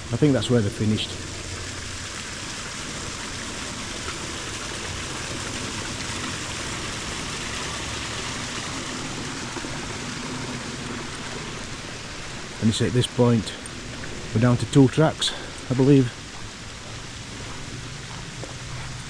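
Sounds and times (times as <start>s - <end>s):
rushing running water: 0.0s - 19.0s.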